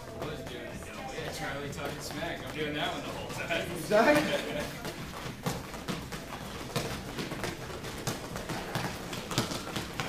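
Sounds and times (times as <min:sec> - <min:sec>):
sneaker footfalls on rubber floor: 0:00.0 - 0:10.0.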